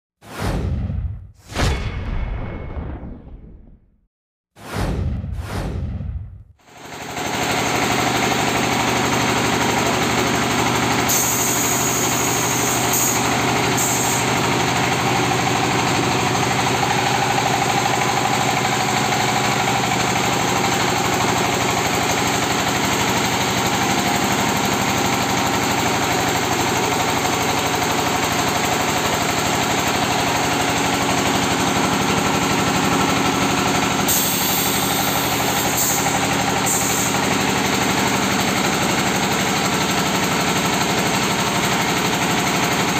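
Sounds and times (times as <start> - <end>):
machine engine drone: 4.6 - 42.9.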